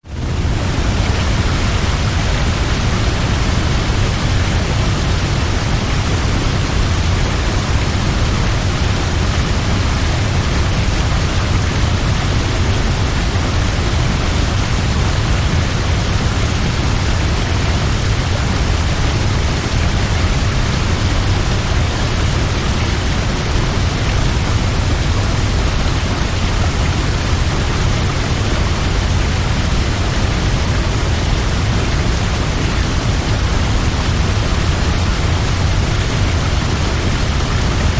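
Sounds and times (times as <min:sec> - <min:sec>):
waterfall rushing: 0:00.1 - 0:37.9.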